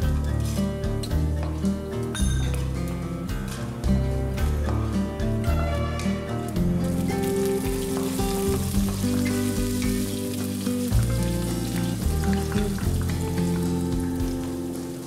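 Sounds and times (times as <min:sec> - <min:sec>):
background music with held notes: 0:00.0 - 0:15.0
hot oil sizzling: 0:00.0 - 0:15.0.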